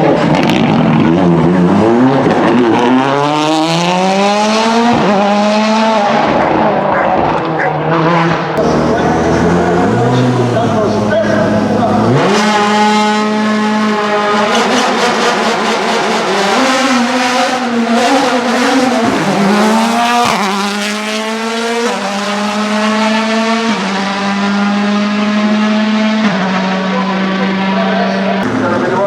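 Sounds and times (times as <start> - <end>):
rally car engine revving hard: 0.0 - 28.9.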